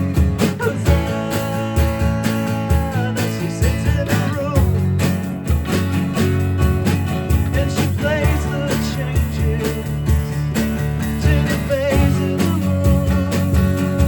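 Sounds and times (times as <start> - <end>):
band playing: 0.0 - 14.0
strummed guitars: 0.0 - 14.0.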